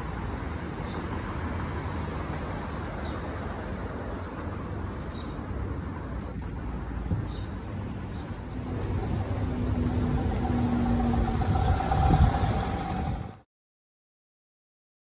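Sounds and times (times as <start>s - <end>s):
cars passing on road: 0.0s - 13.4s
low traffic rumble: 0.0s - 13.4s.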